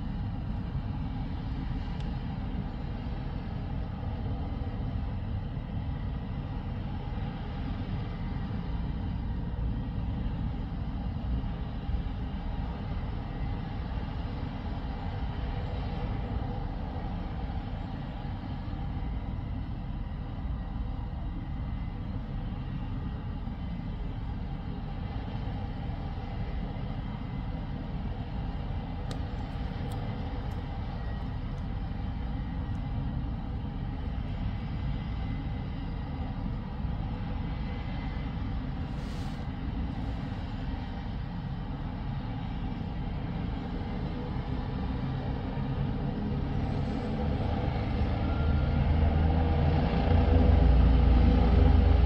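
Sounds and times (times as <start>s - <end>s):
distant helicopter turbine rumble: 0.0s - 52.0s
faint turbine whine: 0.0s - 52.0s.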